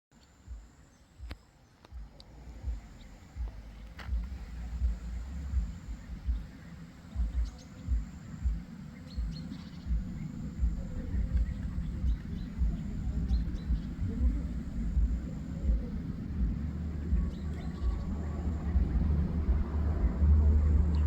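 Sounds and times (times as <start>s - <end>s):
birds chirping: 0.1s - 21.0s
low thumps and rumbles: 0.5s - 21.0s.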